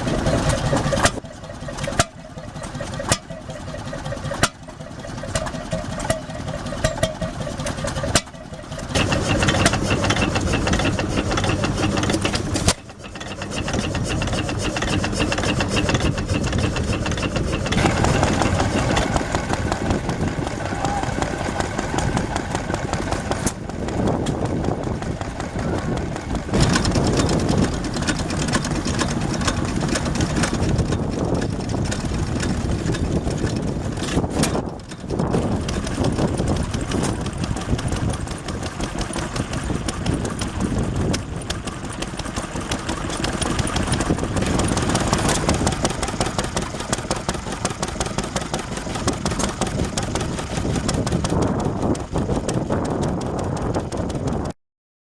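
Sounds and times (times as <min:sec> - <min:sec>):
stationary engine running: 0:00.0 - 0:54.6.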